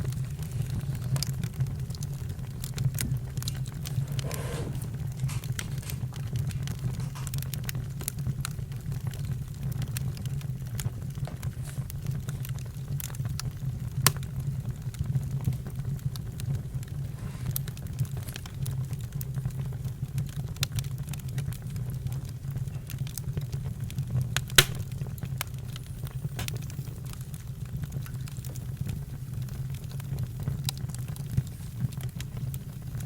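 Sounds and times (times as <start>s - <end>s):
campfire crackling: 0.0s - 33.0s.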